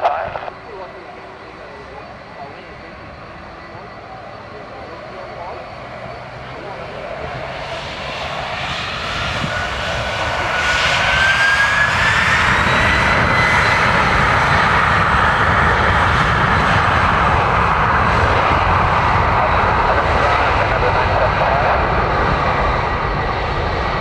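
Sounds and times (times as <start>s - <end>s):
aircraft engines: 0.0s - 24.0s.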